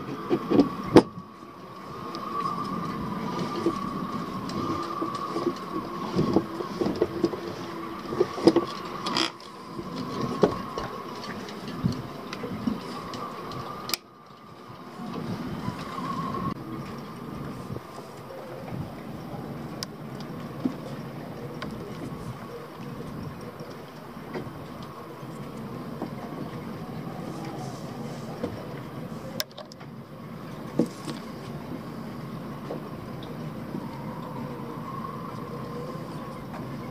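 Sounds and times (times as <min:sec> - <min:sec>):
faint steady whine: 0:00.0 - 0:36.9.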